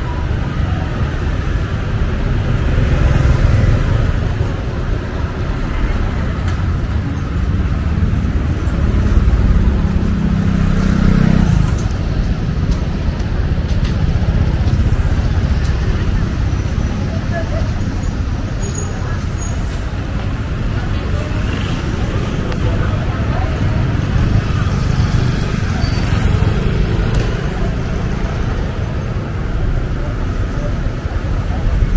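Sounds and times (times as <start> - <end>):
street traffic passing: 0.0 - 31.9
vehicle engine hum: 0.0 - 31.9.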